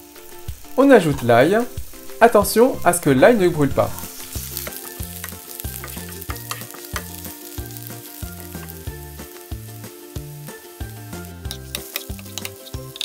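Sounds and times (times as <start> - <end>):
garlic sizzling in hot oil: 0.0 - 13.0
soft background music with beat: 0.0 - 13.0.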